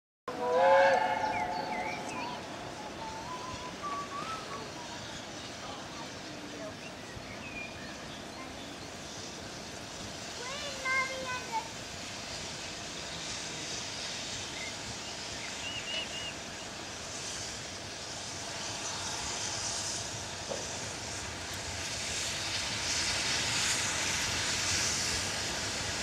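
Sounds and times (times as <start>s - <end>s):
steam hiss: 0.3s - 26.0s
steam locomotive exhaust beats: 0.3s - 26.0s.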